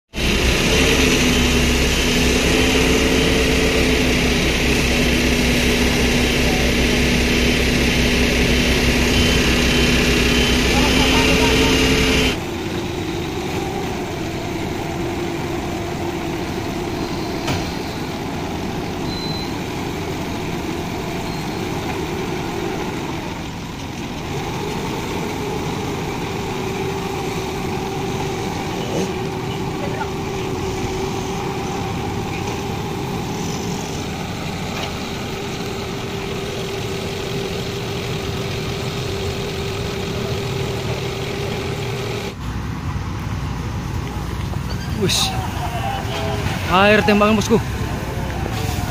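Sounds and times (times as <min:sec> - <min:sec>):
diesel truck engine idling: 0:00.1 - 0:48.9.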